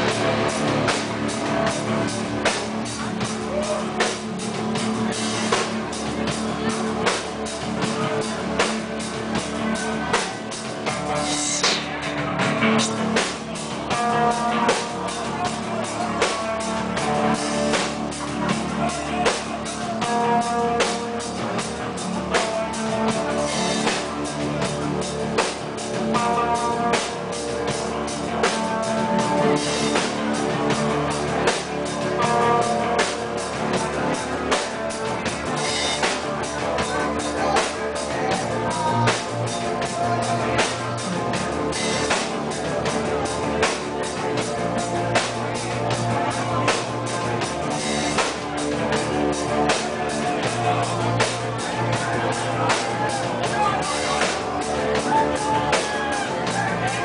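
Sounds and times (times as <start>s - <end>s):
drum kit beating: 0.0s - 57.0s
electric guitar: 0.0s - 57.0s.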